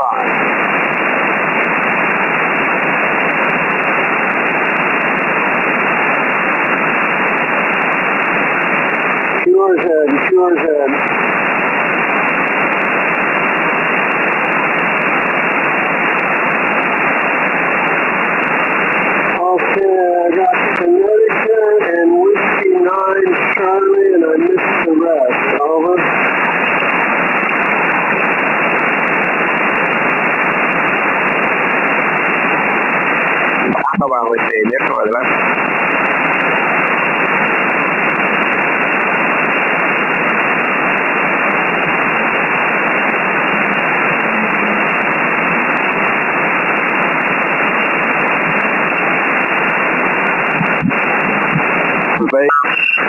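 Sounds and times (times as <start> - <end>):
dull radio static hiss: 0.0 - 53.0.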